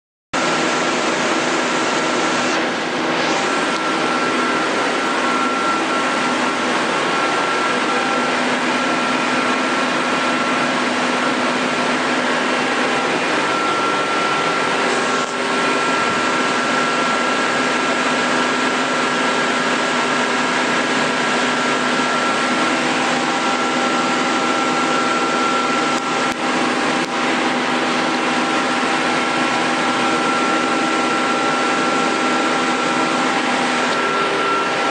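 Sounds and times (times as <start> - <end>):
lathe running with whine: 0.4 - 34.9.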